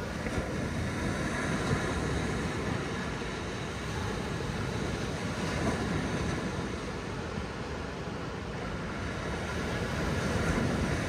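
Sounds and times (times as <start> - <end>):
waves washing up a beach: 0.0 - 11.0.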